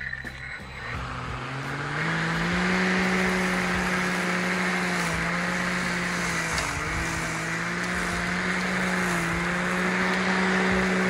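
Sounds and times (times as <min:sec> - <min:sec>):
toy lawn mower motor humming: 0:00.4 - 0:11.0.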